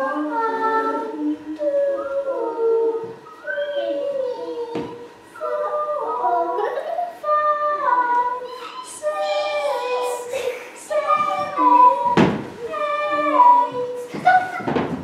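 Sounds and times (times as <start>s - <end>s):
woman and children singing: 0.0s - 15.0s.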